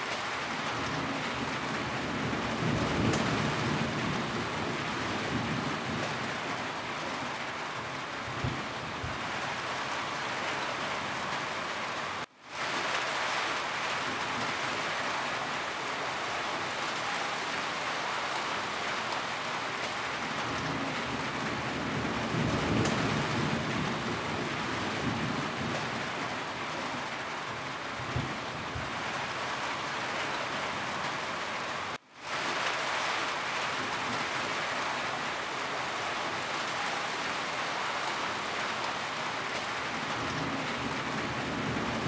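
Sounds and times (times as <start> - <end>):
rain falling on a roof: 0.0 - 42.0.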